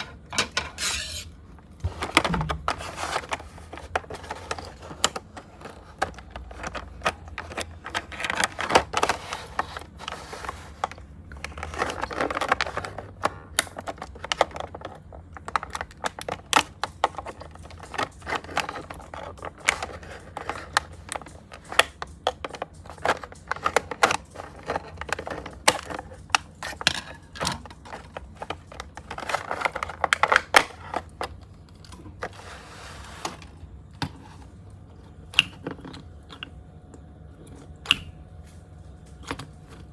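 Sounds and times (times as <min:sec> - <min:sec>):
plastic and cardboard crinkling: 0:00.0 - 0:34.6.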